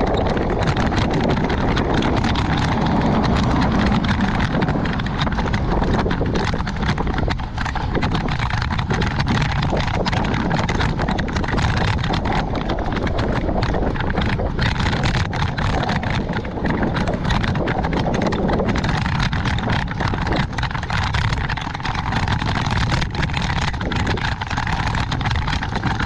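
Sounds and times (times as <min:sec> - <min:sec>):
rapid irregular clicking clatter: 0:00.0 - 0:26.0
wind buffeting microphone: 0:00.0 - 0:26.0.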